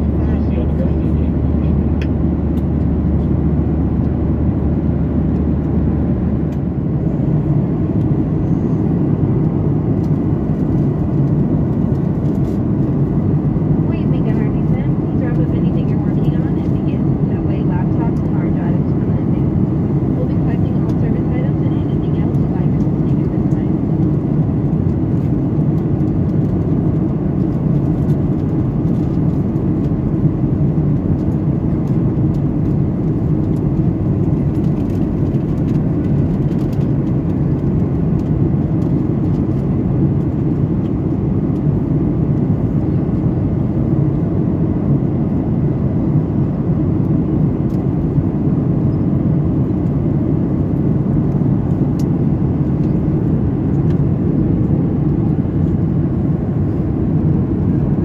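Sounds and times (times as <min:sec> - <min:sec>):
airflow over fuselage: 0:00.0 - 0:58.0
airplane cabin engine drone: 0:00.0 - 0:58.0.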